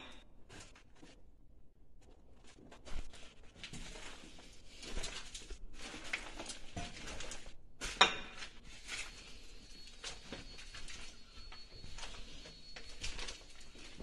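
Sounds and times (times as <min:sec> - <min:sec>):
footsteps crunching over rubble: 0:01.9 - 0:14.0.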